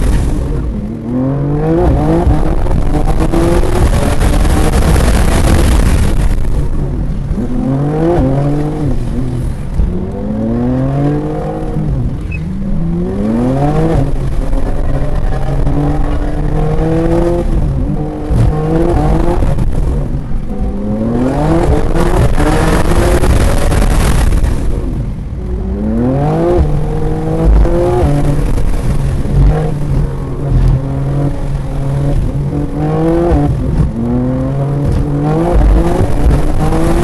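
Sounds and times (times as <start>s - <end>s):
car engine accelerating: 0.0s - 37.0s
wind and road noise: 0.0s - 37.0s.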